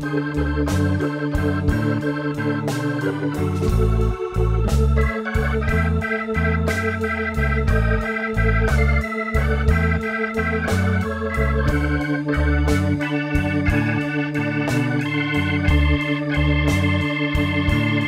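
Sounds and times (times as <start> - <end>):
organ-led instrumental music: 0.0 - 18.0.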